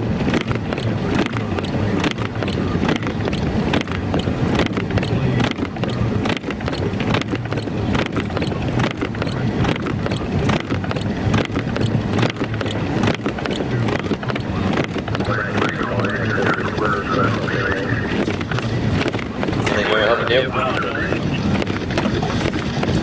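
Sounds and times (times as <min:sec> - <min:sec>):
irregular clicks and knocks: 0:00.0 - 0:19.9
car road and tyre noise: 0:00.0 - 0:23.0
low engine hum: 0:00.0 - 0:23.0.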